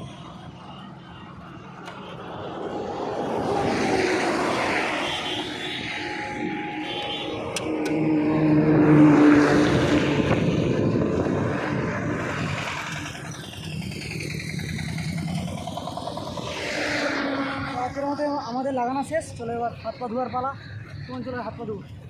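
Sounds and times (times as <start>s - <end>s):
vehicles passing on highway: 0.0s - 22.0s.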